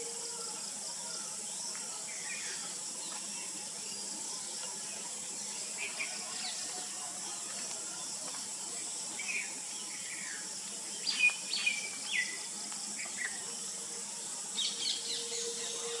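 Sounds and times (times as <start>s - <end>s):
high insect hiss: 0.0s - 16.0s.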